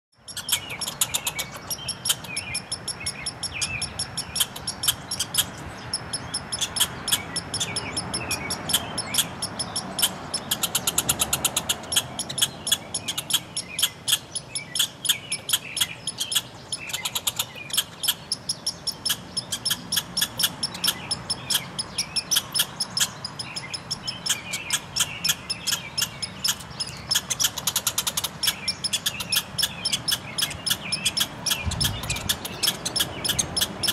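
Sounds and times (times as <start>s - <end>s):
squirrels chattering: 0.1s - 33.9s.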